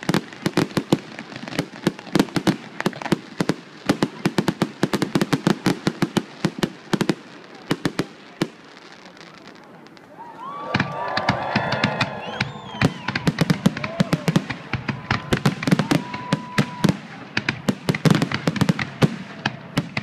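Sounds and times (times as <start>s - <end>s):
fireworks banging and cracking: 0.0s - 20.0s.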